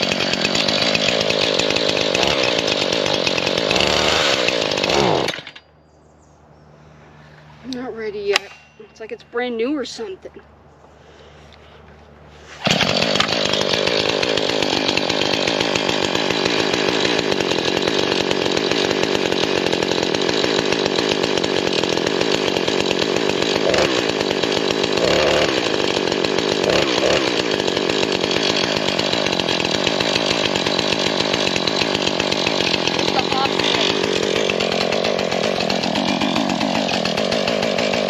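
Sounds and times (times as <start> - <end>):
chainsaw running: 0.0 - 5.8, 6.8 - 10.4, 11.0 - 38.0.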